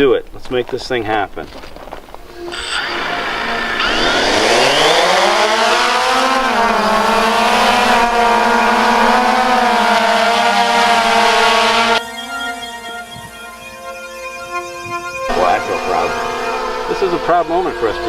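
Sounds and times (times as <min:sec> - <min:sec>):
drone motors whining: 0:02.2 - 0:18.0.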